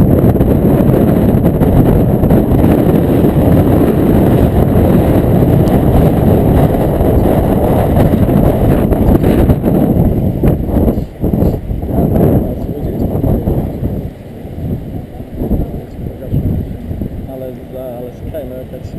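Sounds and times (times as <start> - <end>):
storm wind buffeting microphone: 0.0 - 18.9.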